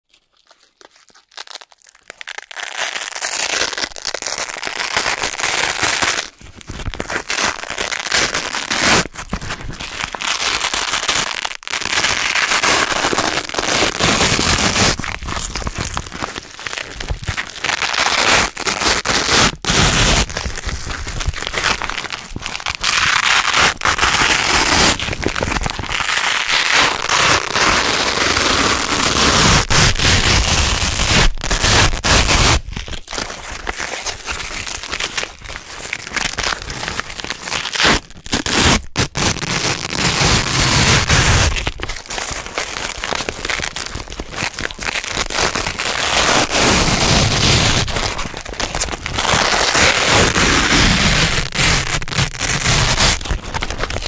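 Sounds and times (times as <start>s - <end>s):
hook-and-loop strips ripping apart: 0.1s - 54.0s.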